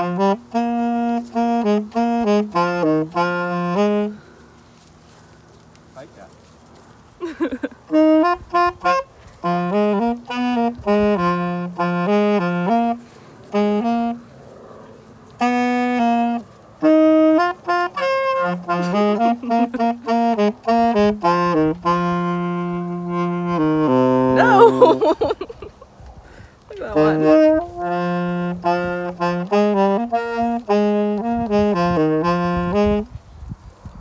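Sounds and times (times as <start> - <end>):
solo tenor saxophone melody: 0.0 - 4.6, 7.3 - 14.5, 15.2 - 25.9, 26.7 - 33.6.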